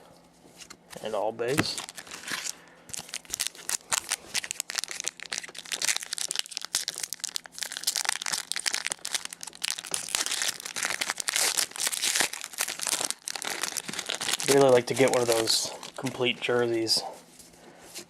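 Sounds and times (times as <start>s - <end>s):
card pack wrappers crinkling: 1.5s - 17.0s.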